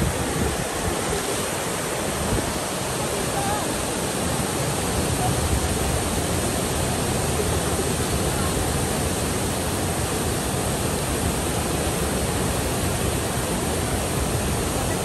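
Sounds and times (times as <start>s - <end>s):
rushing flowing water: 0.0s - 15.0s.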